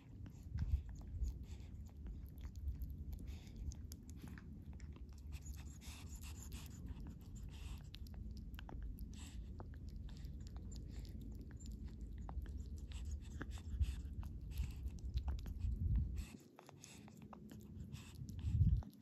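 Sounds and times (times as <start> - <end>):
low rumble: 0.0 - 16.4, 17.3 - 18.9
kitten breathing huffs: 0.0 - 19.0
kitten lapping and chewing: 0.0 - 19.0.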